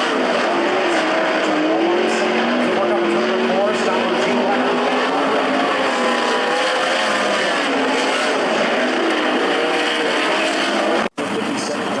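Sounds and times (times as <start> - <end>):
racing car engines running: 0.0 - 12.0.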